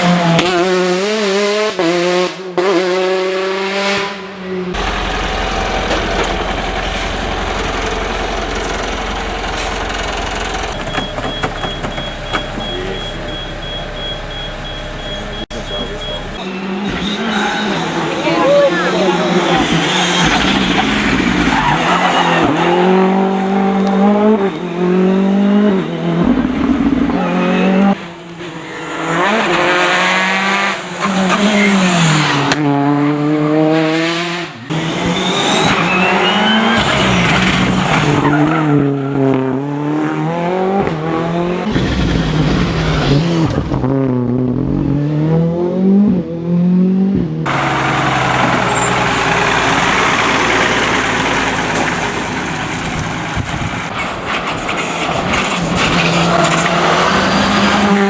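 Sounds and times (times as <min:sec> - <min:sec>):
rally cars revving past: 0:00.0 - 0:06.3, 0:16.4 - 0:58.0.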